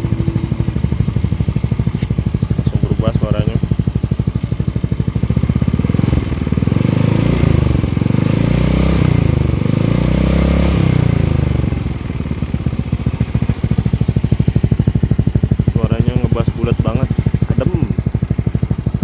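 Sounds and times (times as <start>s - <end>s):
scooter engine revving: 0.0s - 19.0s.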